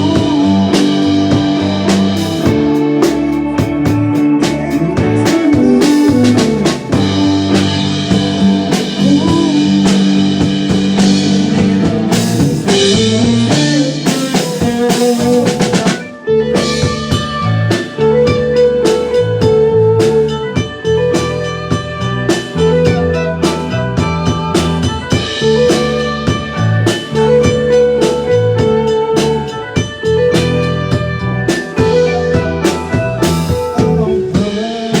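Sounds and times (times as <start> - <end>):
blues-rock band playing: 0.0 - 35.0.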